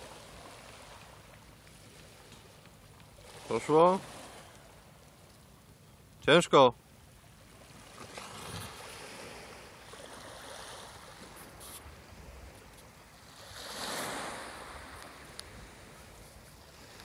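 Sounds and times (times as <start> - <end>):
small waves lapping on pebbles: 0.0 - 5.3, 7.4 - 17.0.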